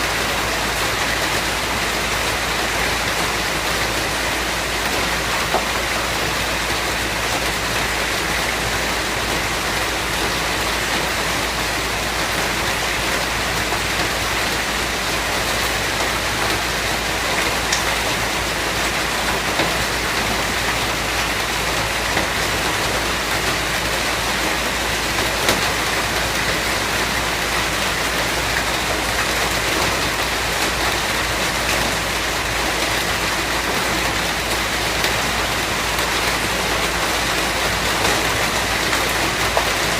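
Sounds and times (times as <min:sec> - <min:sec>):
rain falling: 0:00.0 - 0:39.9
sharp raindrops landing: 0:00.0 - 0:39.9.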